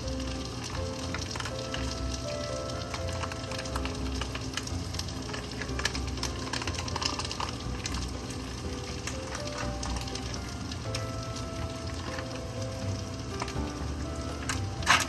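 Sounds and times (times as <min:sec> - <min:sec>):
background music: 0:00.0 - 0:15.0
food sizzling in a hot pan: 0:00.3 - 0:15.0.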